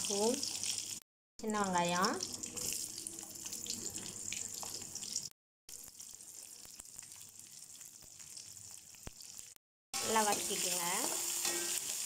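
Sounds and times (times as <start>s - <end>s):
frying hiss in wok: 0.0s - 12.0s.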